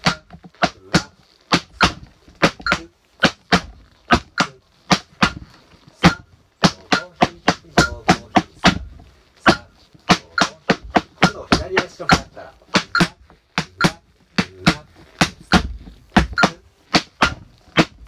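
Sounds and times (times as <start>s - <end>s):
tap shoes striking floor: 0.0s - 18.0s.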